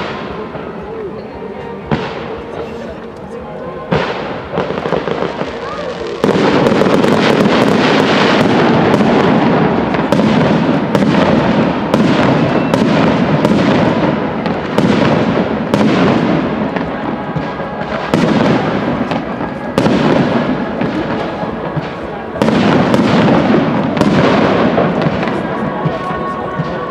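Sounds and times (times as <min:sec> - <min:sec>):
fireworks crackling: 0:00.0 - 0:26.9
fireworks launches and bursts: 0:00.0 - 0:26.9.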